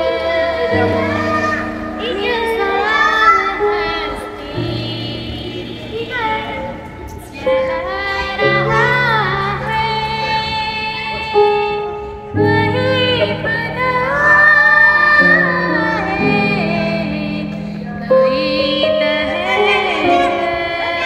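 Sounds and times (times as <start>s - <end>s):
high singing voice: 0.0s - 21.0s
sustained chords: 0.0s - 21.0s.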